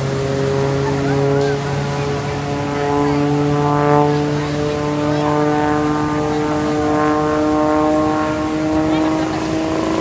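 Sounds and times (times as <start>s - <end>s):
propeller airplanes droning overhead: 0.0s - 10.0s.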